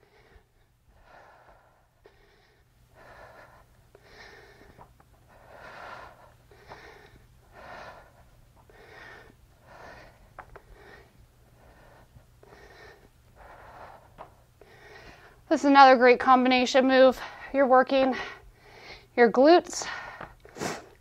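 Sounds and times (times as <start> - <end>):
woman breathing heavily: 0.0 - 21.0.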